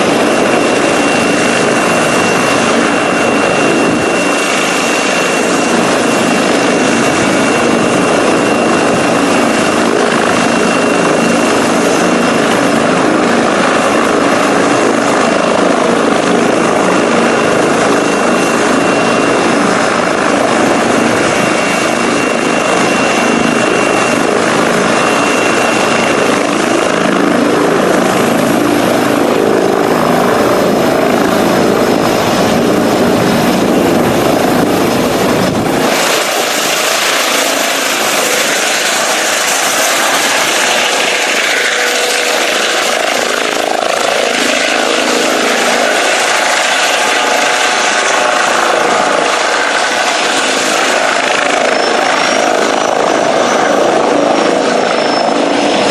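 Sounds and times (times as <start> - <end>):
helicopter engine and rotor: 0.0 - 55.9
high turbine whine: 0.0 - 55.9.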